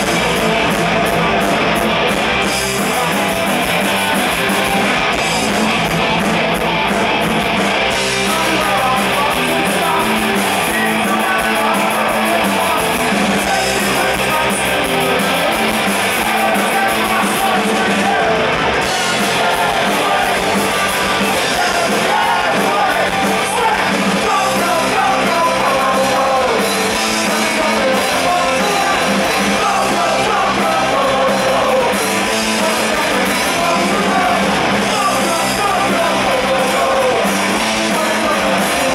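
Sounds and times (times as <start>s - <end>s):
live punk rock band: 0.0s - 38.9s
yelled singing: 0.0s - 38.9s.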